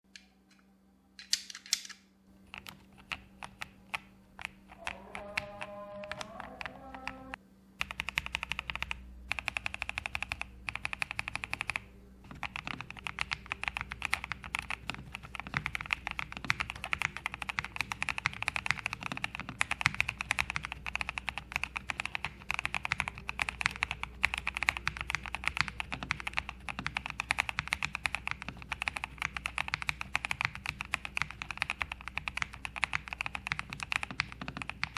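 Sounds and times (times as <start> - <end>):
typing on mechanical keyboard: 2.4 - 34.9.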